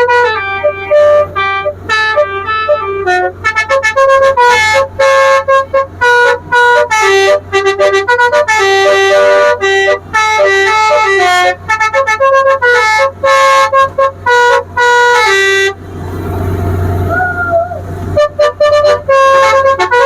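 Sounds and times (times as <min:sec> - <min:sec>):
musical horn toots: 0:00.0 - 0:15.8, 0:18.1 - 0:20.0.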